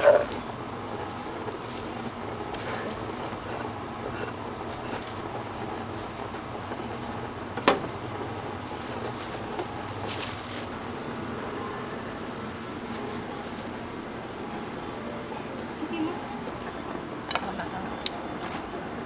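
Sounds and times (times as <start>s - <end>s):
street food stall background noise: 0.0s - 19.0s.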